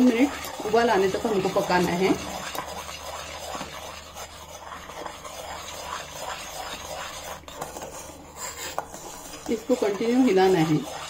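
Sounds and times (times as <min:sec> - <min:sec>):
spoon scraping saucepan bottom: 0:00.0 - 0:11.0.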